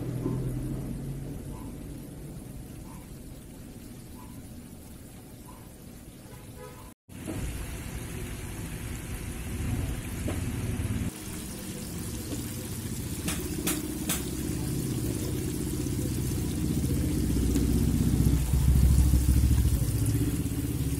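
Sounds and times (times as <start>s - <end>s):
oil bubbling deep-frying: 0.0s - 20.9s.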